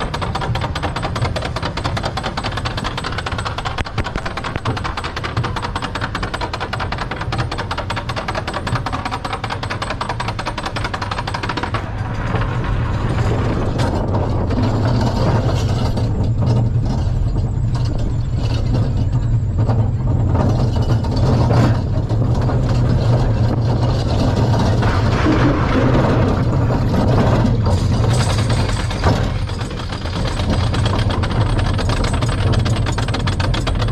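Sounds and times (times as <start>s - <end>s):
coaster train clattering on wooden track: 0.0s - 33.9s
coaster train low rumble: 0.0s - 33.9s.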